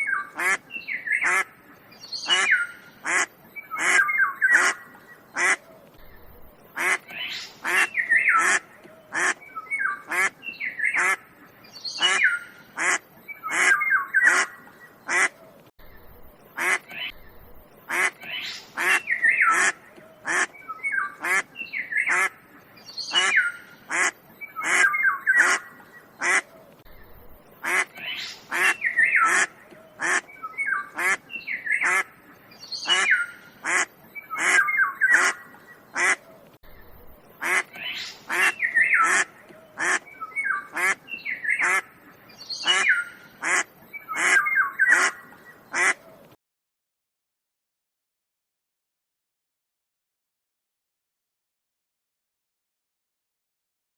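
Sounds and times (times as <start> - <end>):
ducks quacking: 0.0 - 15.5, 16.4 - 46.1.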